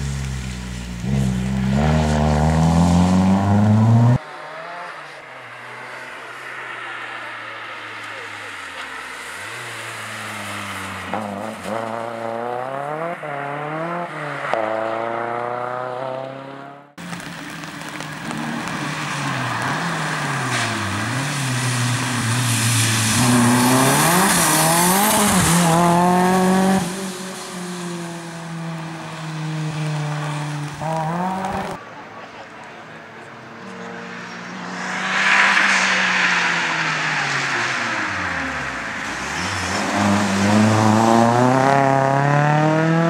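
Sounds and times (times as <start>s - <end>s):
rally car engine revving: 1.0s - 7.3s, 8.0s - 31.8s, 33.4s - 43.0s.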